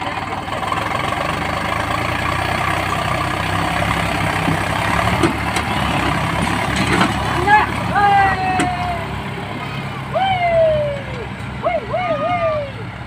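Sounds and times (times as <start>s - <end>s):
diesel tractor engines running: 0.0s - 13.0s.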